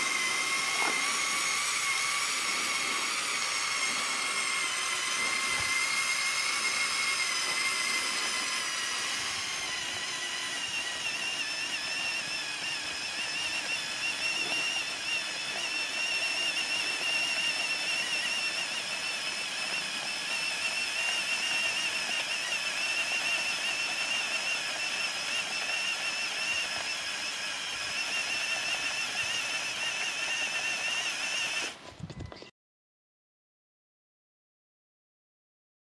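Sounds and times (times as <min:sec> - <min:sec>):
toy truck electric motors whining: 0:00.0 - 0:32.4.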